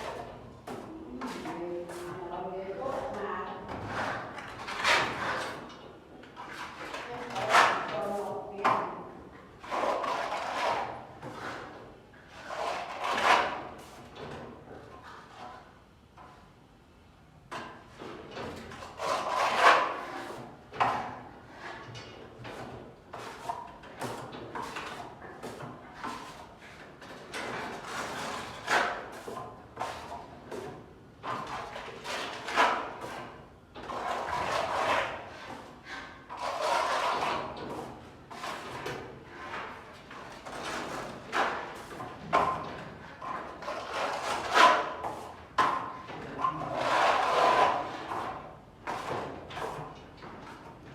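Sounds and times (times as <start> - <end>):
hand tool scraping wall: 0.0 - 15.7, 17.6 - 50.9.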